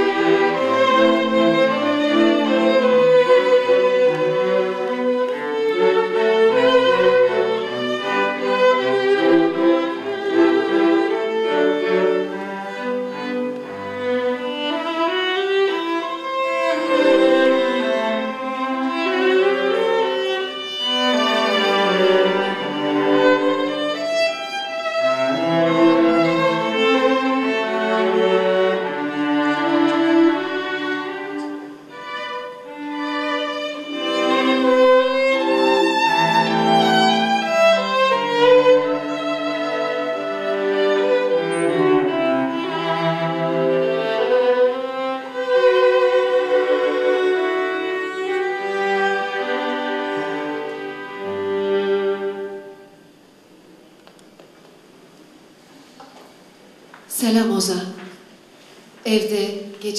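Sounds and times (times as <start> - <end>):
string quartet playing: 0.0 - 54.2.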